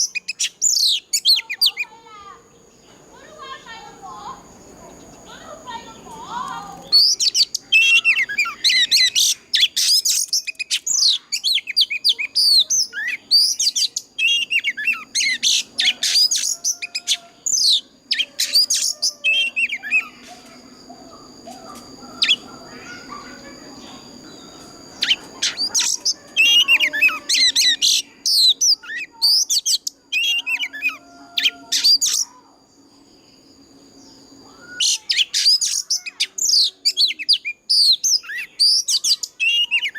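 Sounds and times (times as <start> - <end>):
bird singing whistles and chirps: 0.0 - 1.9, 6.3 - 32.6, 33.2 - 39.9.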